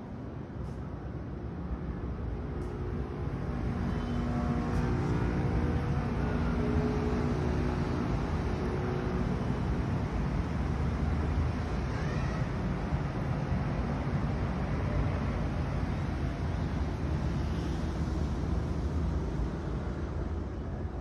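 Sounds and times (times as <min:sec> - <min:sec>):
distant city traffic hum: 0:00.0 - 0:21.0.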